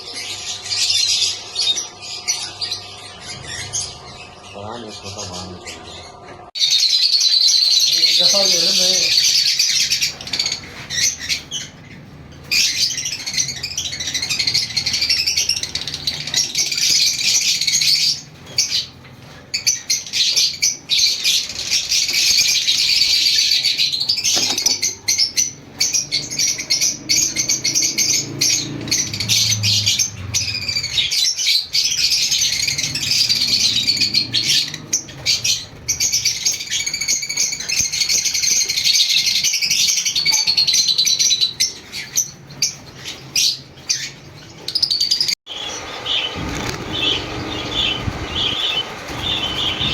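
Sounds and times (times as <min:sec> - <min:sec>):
lovebirds chattering: 0:00.0 - 0:49.9.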